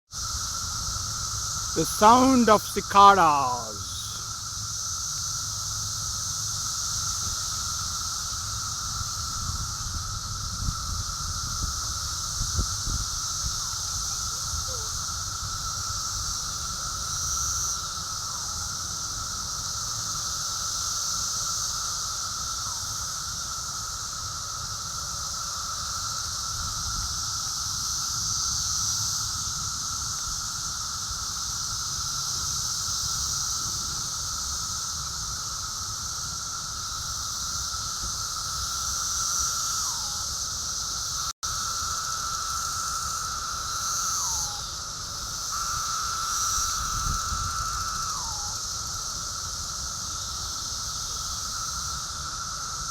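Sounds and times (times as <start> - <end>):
cicadas droning: 0.1 - 52.9.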